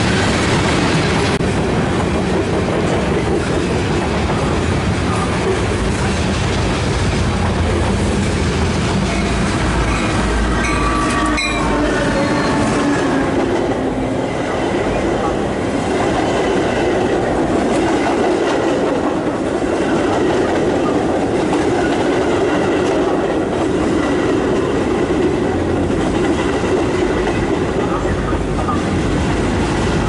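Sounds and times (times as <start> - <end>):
diesel locomotive passing: 0.0 - 30.0
train coaches rumbling past: 0.0 - 30.0.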